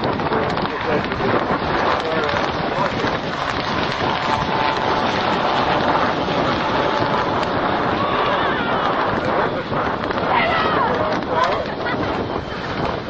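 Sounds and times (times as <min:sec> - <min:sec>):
helicopters flying low: 0:00.0 - 0:13.0.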